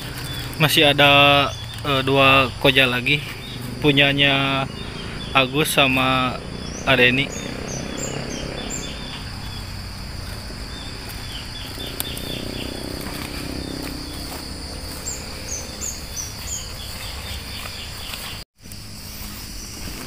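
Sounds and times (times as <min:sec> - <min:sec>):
birds chirping: 0:00.0 - 0:20.0
insects droning: 0:00.0 - 0:20.0.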